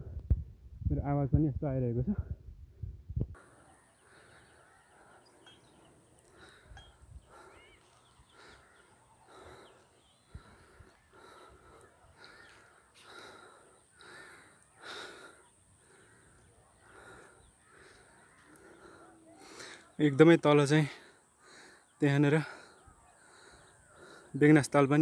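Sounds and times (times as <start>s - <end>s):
man breathing hard: 3.4s - 20.0s, 20.8s - 24.6s.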